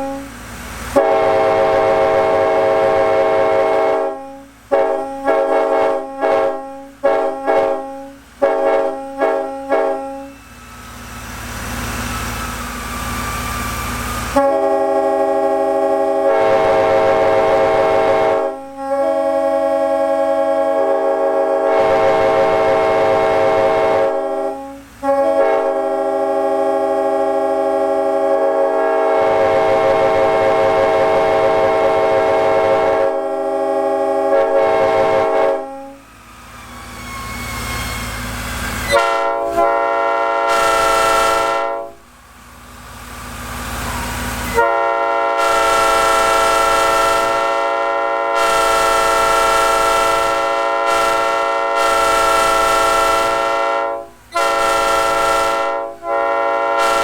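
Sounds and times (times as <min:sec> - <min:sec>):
train air horn chord: 0:00.0 - 0:10.8, 0:13.8 - 0:36.1, 0:37.0 - 0:42.1, 0:43.8 - 0:57.0.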